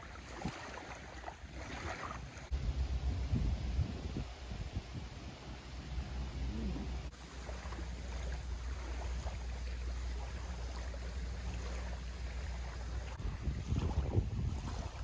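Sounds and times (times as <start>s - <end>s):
waves lapping on shore: 0.0s - 15.0s
wind rumbling on microphone: 0.0s - 15.0s.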